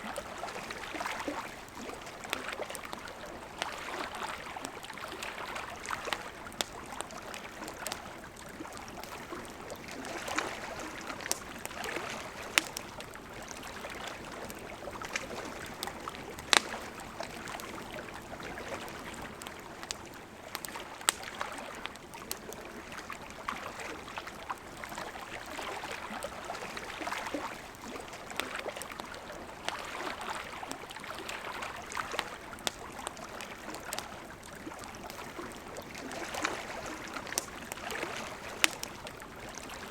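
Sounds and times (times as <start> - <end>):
campfire crackling: 0.0 - 39.9
river flowing: 0.0 - 39.9.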